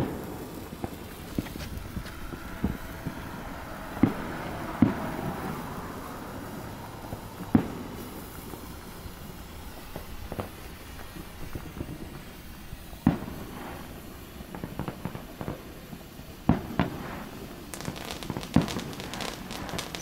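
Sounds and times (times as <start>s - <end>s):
firework bangs: 0.0s - 20.0s
fireworks hissing: 0.0s - 20.0s.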